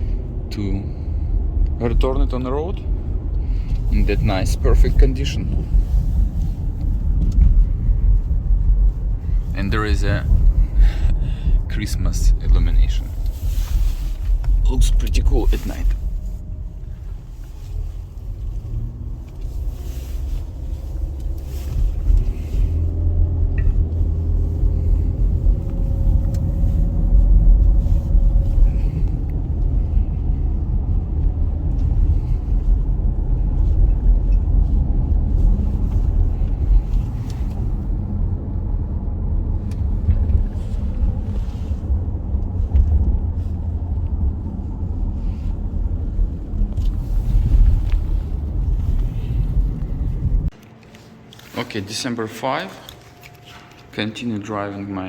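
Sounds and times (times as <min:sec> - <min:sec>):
road and engine rumble in car: 0:00.0 - 0:51.6.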